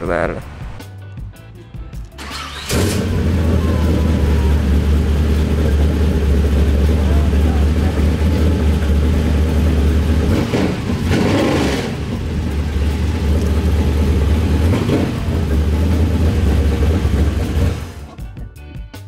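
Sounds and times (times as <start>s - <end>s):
engine idling with low rumble: 2.2s - 18.3s.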